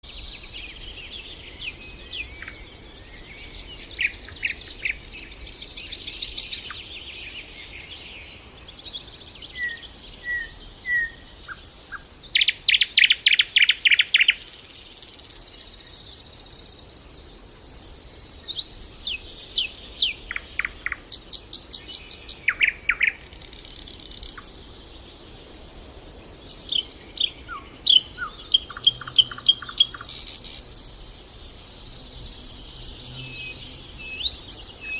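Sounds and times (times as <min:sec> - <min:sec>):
nightingale singing: 0:00.0 - 0:34.9.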